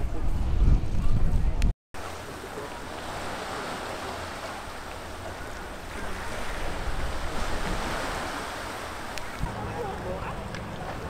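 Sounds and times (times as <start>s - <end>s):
wind rumbling on microphone: 0.0s - 11.0s
sea water washing against rocks: 2.0s - 11.0s.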